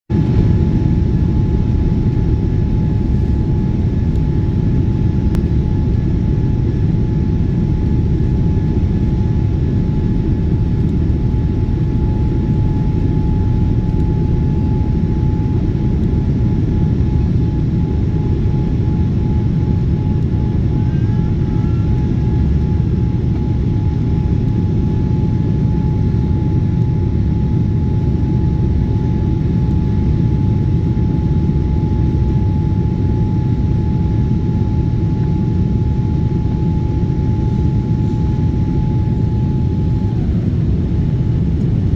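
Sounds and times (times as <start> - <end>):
jet airliner cabin roar: 0.1 - 41.9
thin steady hum-tone: 0.1 - 41.9.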